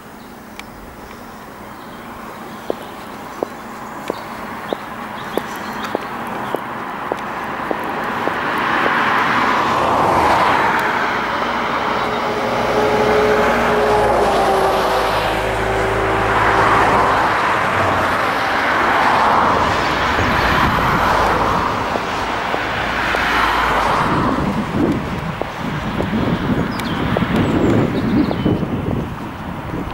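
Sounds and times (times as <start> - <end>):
cars passing: 0.0 - 29.9
low engine drone: 0.0 - 29.9.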